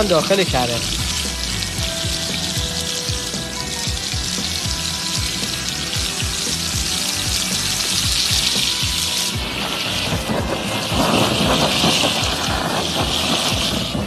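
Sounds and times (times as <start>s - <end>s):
background music with steady beat: 0.0s - 14.0s
blow torch hissing: 0.0s - 14.0s
butter sizzling in a hot pan: 0.0s - 14.0s.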